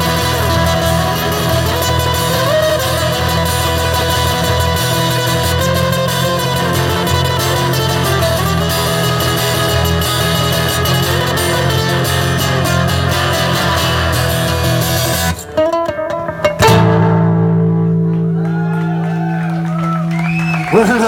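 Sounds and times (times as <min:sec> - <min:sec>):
acoustic guitars strumming: 0:00.0 - 0:21.0.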